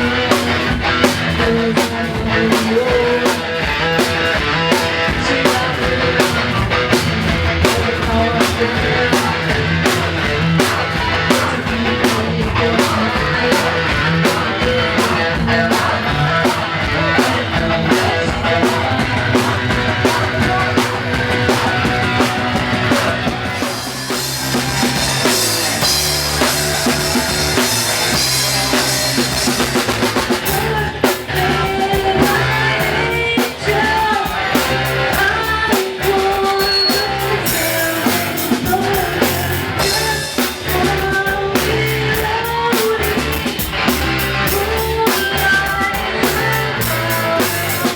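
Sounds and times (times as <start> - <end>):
rock music drums and guitar: 0.0 - 47.9.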